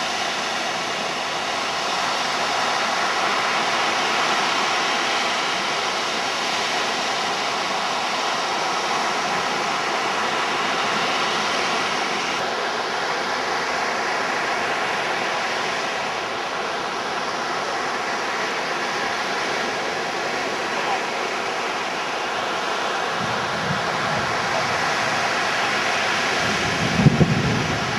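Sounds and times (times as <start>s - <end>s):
surf breaking on shore: 0.0s - 27.9s
wind: 0.0s - 27.9s.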